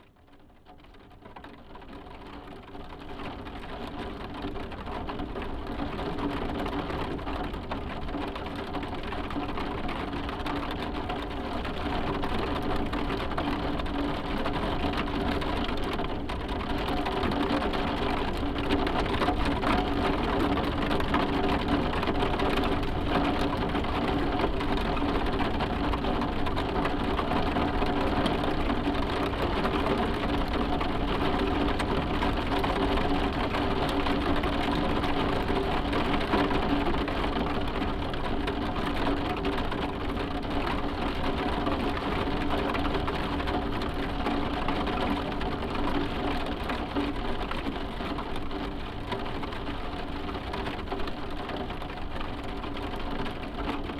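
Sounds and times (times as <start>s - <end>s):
rain on a roof: 0.0s - 53.9s.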